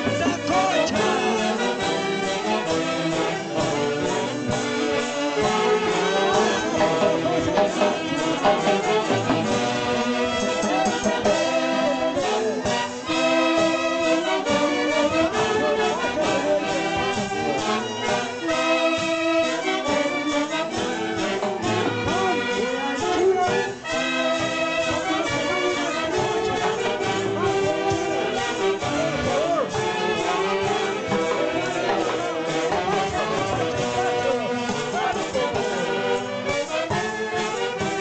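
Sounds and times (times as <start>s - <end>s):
festival band playing dance music: 0.0s - 38.0s.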